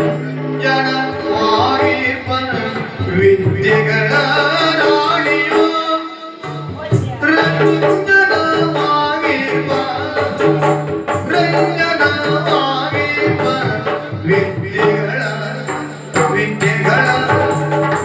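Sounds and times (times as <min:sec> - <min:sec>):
drums beating quick rhythm: 0:00.0 - 0:18.0
person singing: 0:00.0 - 0:18.0.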